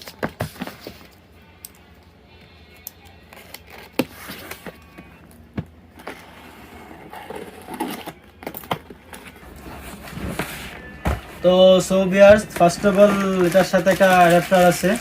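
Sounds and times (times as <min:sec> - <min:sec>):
cardboard and wrapping rustling: 0:00.0 - 0:01.2, 0:03.3 - 0:15.0.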